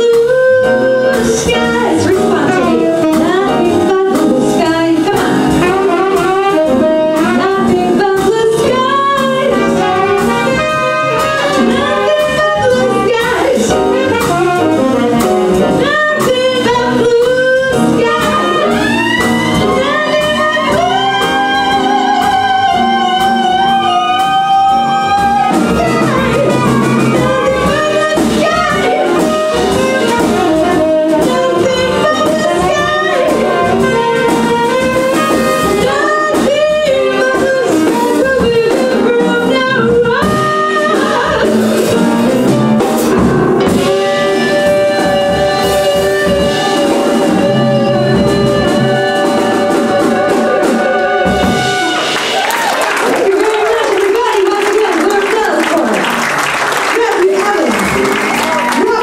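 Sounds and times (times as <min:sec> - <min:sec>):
woman singing: 0:00.0 - 0:42.3, 0:43.7 - 0:51.9, 0:53.0 - 0:56.1, 0:56.9 - 0:59.0
saxophone: 0:00.0 - 0:54.3
drums: 0:00.0 - 0:59.0
piano: 0:00.0 - 0:59.0
trumpet: 0:00.0 - 0:59.0
upright bass: 0:00.0 - 0:59.0.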